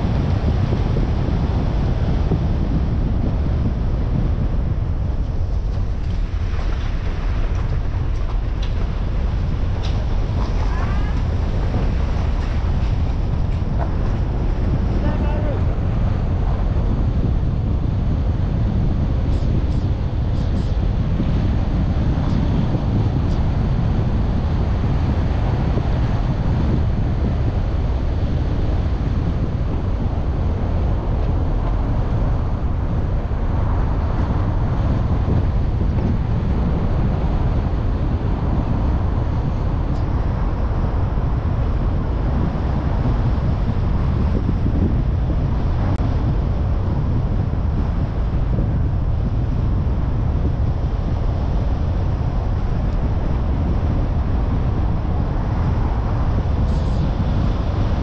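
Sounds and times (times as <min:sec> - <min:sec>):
car road and wind noise: 0:00.0 - 0:58.0.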